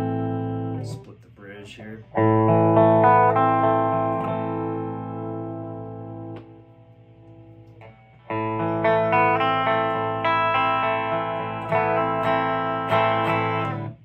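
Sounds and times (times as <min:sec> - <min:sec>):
electric guitar chords strummed: 0:00.0 - 0:01.2, 0:02.0 - 0:14.0.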